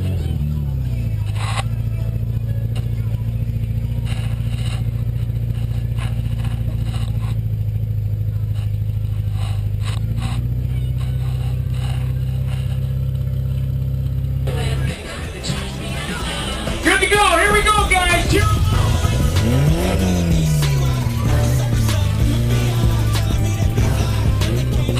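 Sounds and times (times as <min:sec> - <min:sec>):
truck engine running hard: 0:00.0 - 0:24.9.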